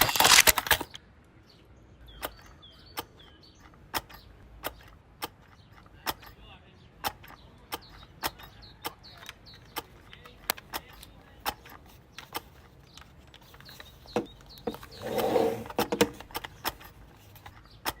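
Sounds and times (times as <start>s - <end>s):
sharp clicks and knocks: 0.0s - 1.0s, 2.1s - 18.0s.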